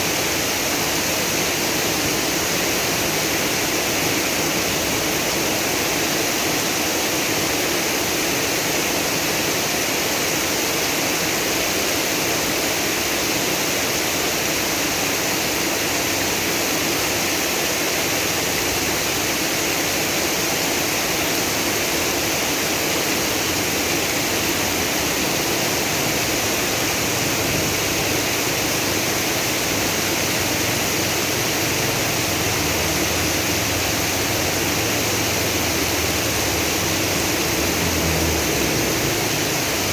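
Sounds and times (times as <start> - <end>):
floodwater running: 0.0 - 39.9
heavy rain pouring: 0.0 - 39.9.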